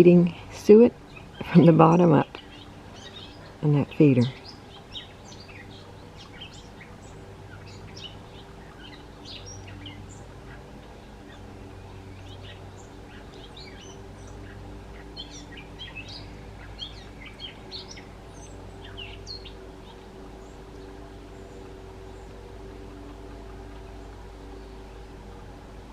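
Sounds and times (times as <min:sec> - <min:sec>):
birds chirping: 0:00.0 - 0:25.9
steady low hum: 0:00.0 - 0:25.9.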